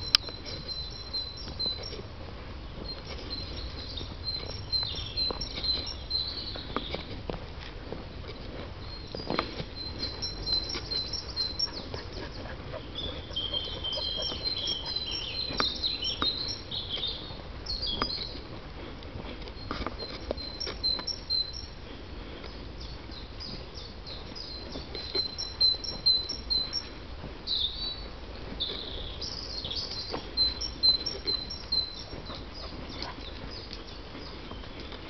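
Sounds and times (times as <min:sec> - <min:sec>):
songbirds singing: 0:00.0 - 0:07.2, 0:08.1 - 0:35.0.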